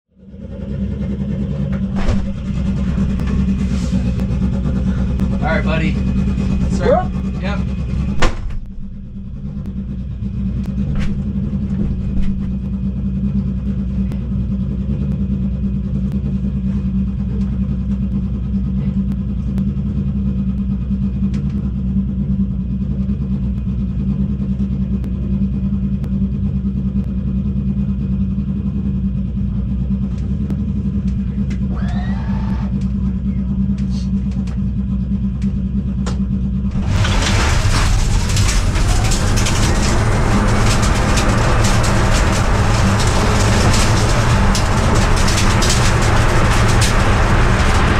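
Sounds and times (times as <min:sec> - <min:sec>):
low mechanical hum: 0:00.2 - 0:47.9.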